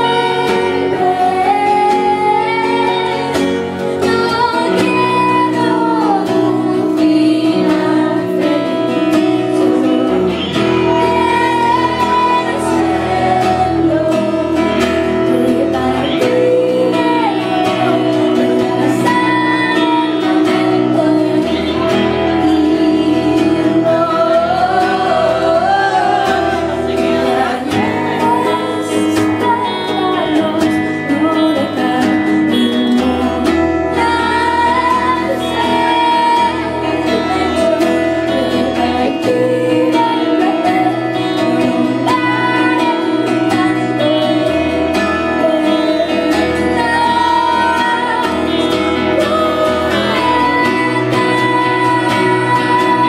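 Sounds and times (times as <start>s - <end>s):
acoustic guitar: 0.0s - 53.0s
woman singing: 0.0s - 53.0s.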